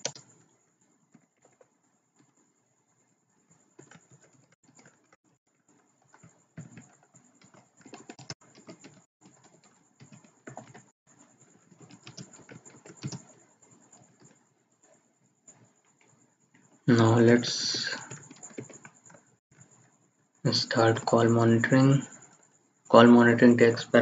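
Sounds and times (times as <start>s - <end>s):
faint keyboard typing: 0.0s - 24.0s.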